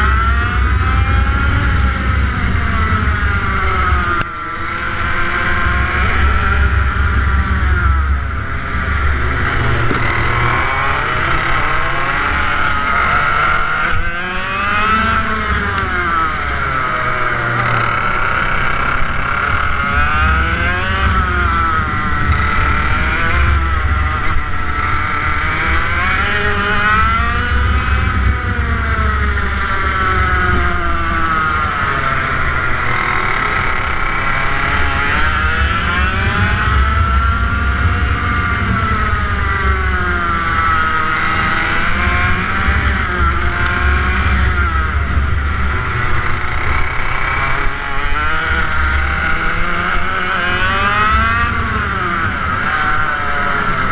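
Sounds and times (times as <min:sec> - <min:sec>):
kart engine revving: 0:00.0 - 0:53.9.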